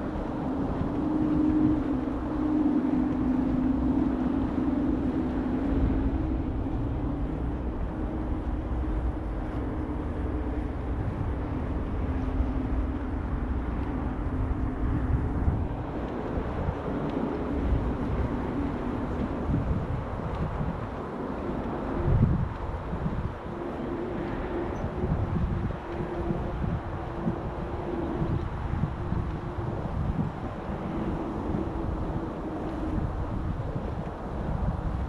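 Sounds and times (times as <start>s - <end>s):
passing vehicle rumble: 0.0s - 35.0s.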